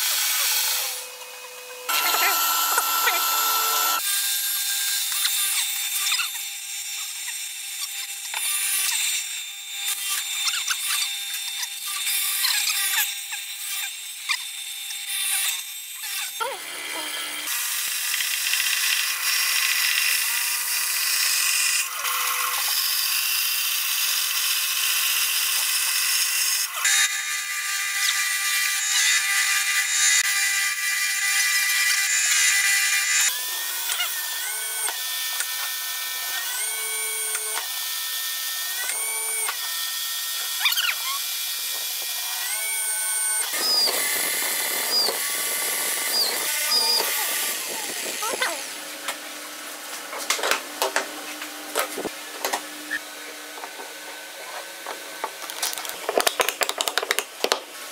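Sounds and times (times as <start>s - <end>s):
electric drill boring into wood: 0.0s - 57.6s
band saw cutting wood: 0.0s - 57.9s.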